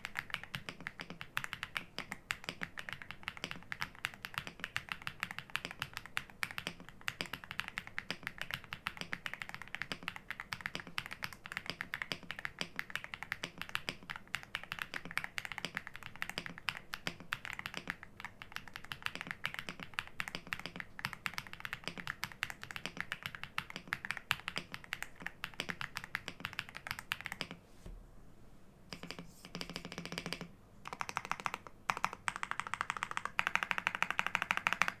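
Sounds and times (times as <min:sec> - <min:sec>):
mechanical keyboard typing: 0:00.0 - 0:27.6, 0:28.9 - 0:35.0.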